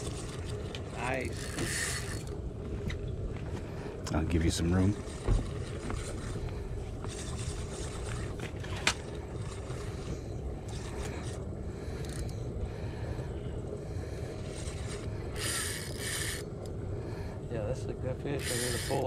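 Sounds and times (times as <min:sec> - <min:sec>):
wind and water rumble: 0:00.0 - 0:19.0.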